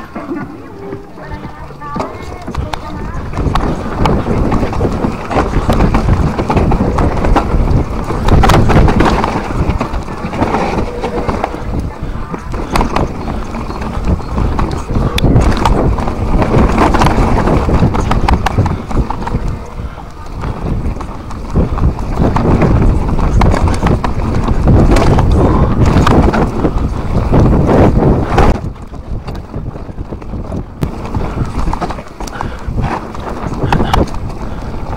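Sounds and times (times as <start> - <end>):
bike knocking and clattering: 0.0 - 34.9
tyres on dirt and roots: 0.0 - 34.9.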